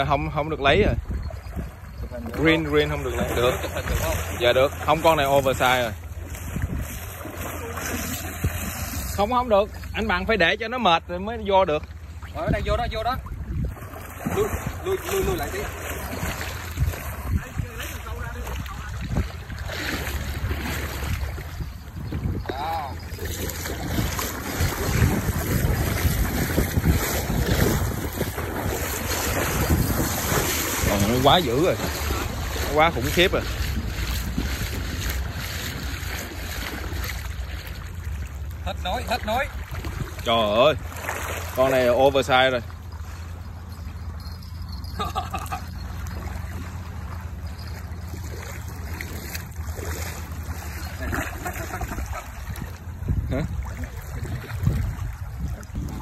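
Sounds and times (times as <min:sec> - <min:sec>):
wind buffeting microphone: 0:00.0 - 0:10.2, 0:12.3 - 0:40.9, 0:47.5 - 0:56.0
water sloshing and splashing: 0:00.0 - 0:56.0.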